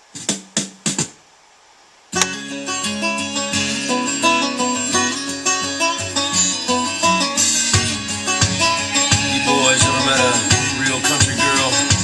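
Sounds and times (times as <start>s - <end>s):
guitar music from car radio: 2.2s - 12.0s.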